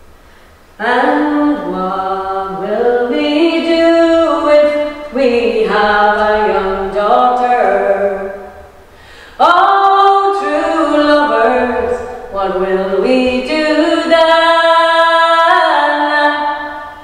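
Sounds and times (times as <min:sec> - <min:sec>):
women singing a cappella: 0:00.8 - 0:08.7, 0:09.4 - 0:17.0.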